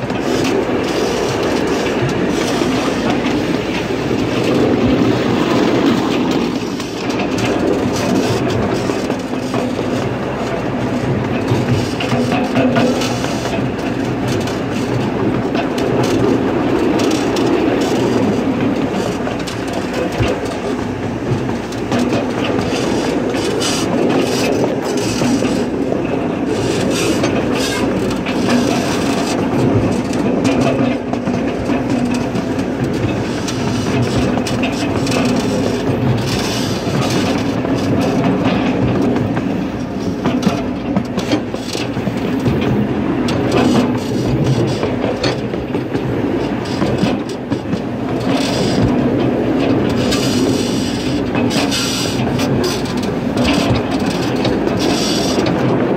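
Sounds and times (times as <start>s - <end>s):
miniature train wheels rumbling: 0.0s - 55.9s.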